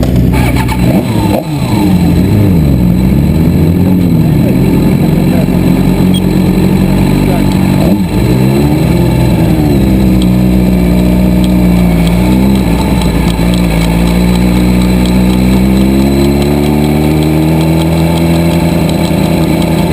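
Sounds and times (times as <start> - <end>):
car engine from inside cabin: 0.0 - 19.9.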